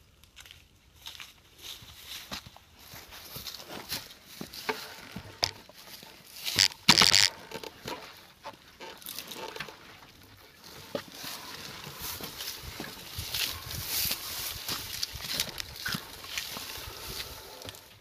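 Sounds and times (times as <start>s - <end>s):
footsteps on dry grass: 0.2s - 18.0s.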